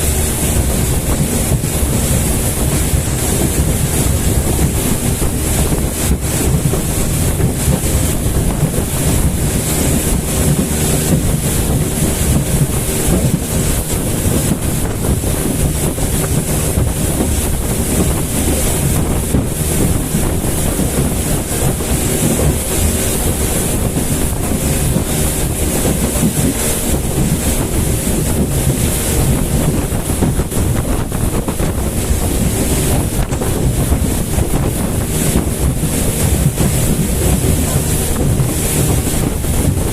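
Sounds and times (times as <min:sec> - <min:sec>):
motorboat engine drone: 0:00.0 - 0:39.9
rushing water: 0:00.0 - 0:39.9
wind buffeting microphone: 0:00.0 - 0:39.9.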